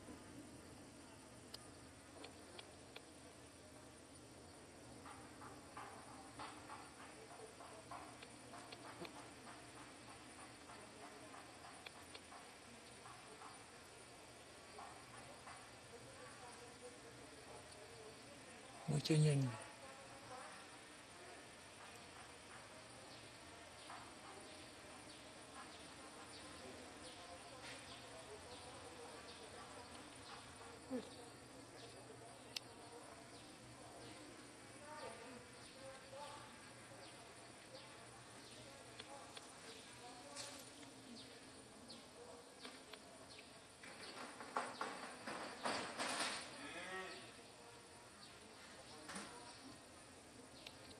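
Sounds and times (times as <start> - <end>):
insects buzzing: 0.0 - 50.9.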